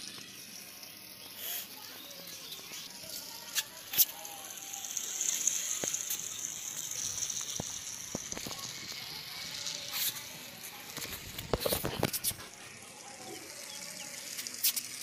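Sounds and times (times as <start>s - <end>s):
toy motors whining: 0.0s - 15.0s.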